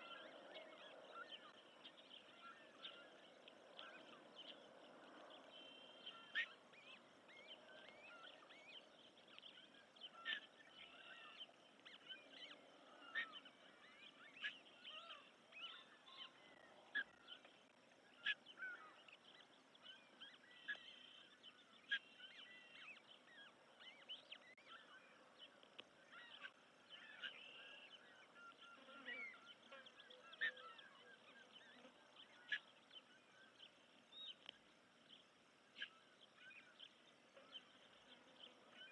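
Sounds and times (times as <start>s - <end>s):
faint bird chirping: 0.0s - 38.9s.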